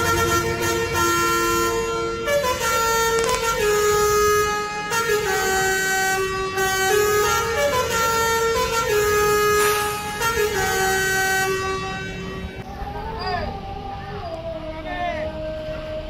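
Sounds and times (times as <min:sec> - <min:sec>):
multi-tone air horn melody: 0:00.0 - 0:14.6.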